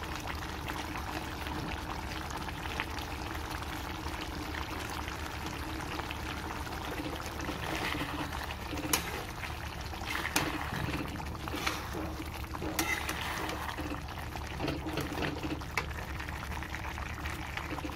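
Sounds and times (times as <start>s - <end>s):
curry simmering and bubbling: 0.0s - 17.9s.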